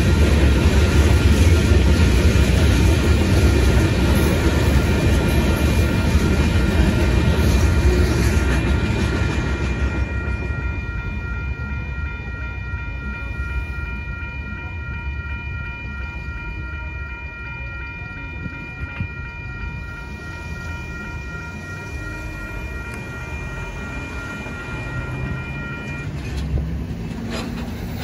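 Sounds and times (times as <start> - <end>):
crossing warning bell ringing: 0.0 - 28.0
freight train rumbling: 0.0 - 28.0.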